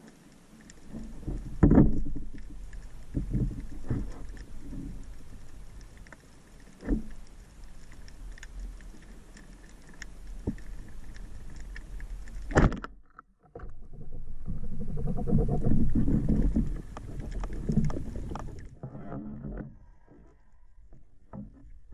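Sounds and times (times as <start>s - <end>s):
water sloshing: 0.0s - 12.8s, 13.6s - 18.8s.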